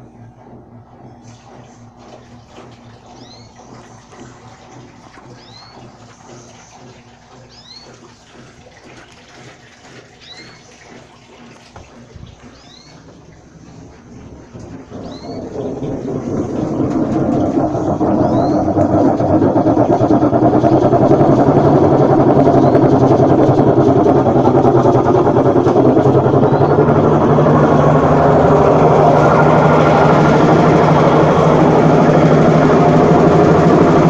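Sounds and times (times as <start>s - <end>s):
washing machine running: 0.0s - 34.0s.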